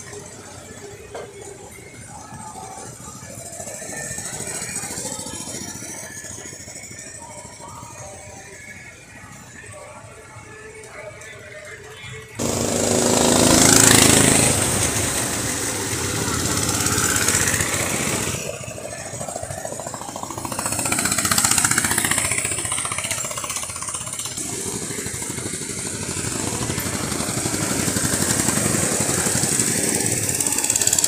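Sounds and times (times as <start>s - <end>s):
go-kart engines passing by: 0.0s - 31.0s.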